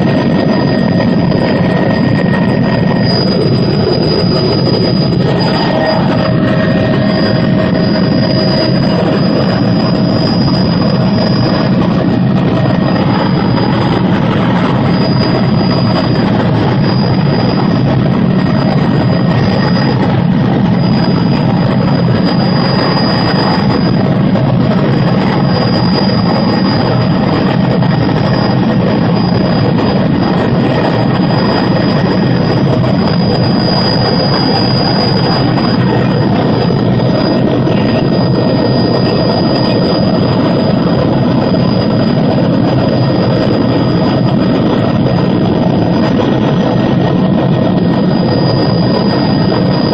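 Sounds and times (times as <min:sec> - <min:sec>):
helicopter rotor and engine noise: 0:00.0 - 0:49.9
thin high whine: 0:00.0 - 0:49.9.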